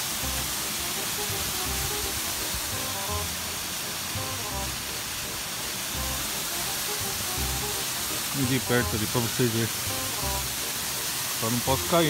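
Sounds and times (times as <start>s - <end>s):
background music with low beats: 0.0s - 12.0s
small waterfall splashing into pool: 0.0s - 12.0s.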